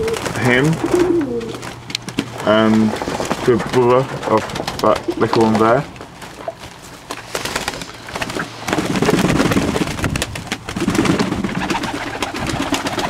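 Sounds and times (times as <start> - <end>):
doves flapping wings: 0.0 - 13.0.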